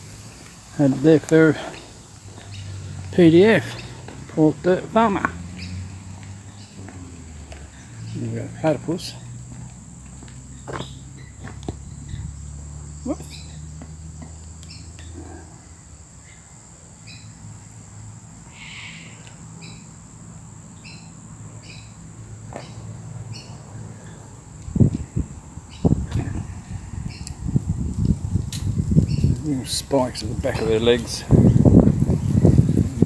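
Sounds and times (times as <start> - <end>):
insect chirps: 0.0 - 33.0
insects droning: 0.0 - 33.0.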